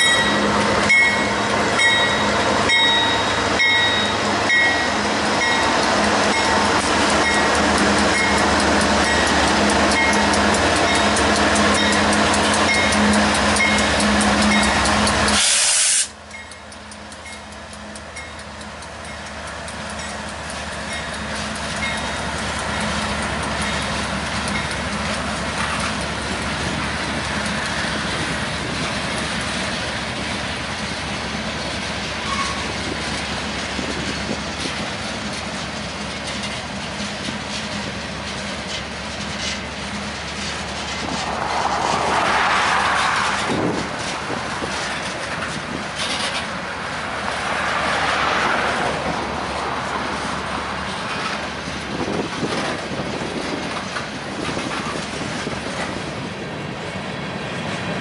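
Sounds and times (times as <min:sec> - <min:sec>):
diesel locomotive engine rumble: 0:00.0 - 0:58.0
wheels clicking over rail joints: 0:00.0 - 0:58.0.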